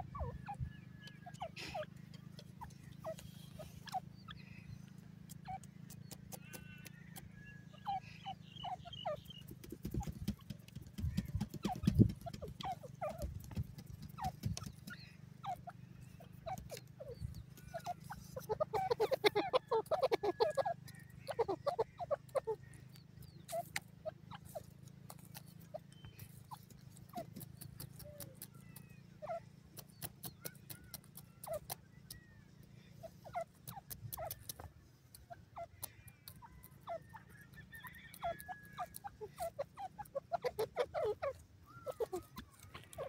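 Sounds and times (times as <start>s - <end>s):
bird clucking: 0.0s - 43.0s
bird pecking at dry soil: 0.7s - 7.6s, 8.8s - 43.0s.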